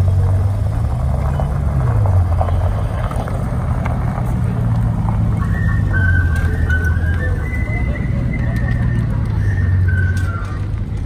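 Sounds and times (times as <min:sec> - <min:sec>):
car engine low hum: 0:00.0 - 0:11.0.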